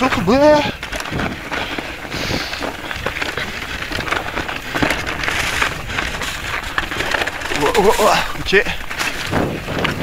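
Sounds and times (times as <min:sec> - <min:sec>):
bike knocking and rattling: 0:00.0 - 0:10.0
tyres crunching through snow: 0:00.0 - 0:10.0.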